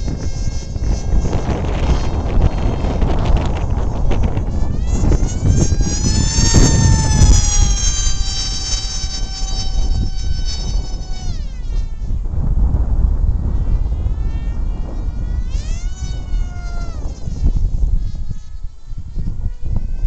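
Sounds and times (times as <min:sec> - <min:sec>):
model plane motor whine: 0:00.0 - 0:20.0
wind noise on microphone: 0:00.0 - 0:20.0.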